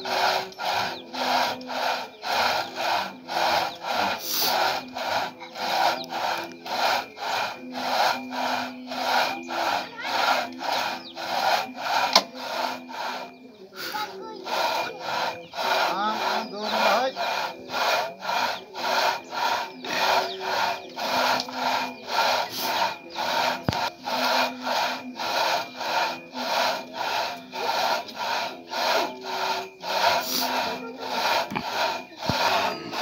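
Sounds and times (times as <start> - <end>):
rip saw rasping through log: 0.0 - 33.0.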